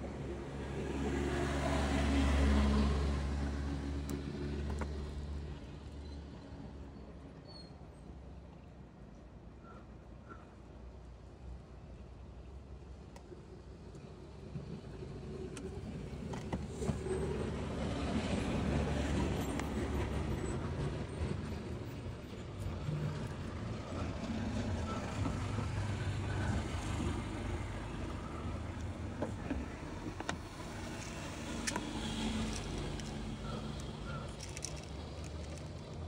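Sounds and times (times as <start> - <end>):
traffic rumble: 0.0 - 7.3, 10.8 - 36.0.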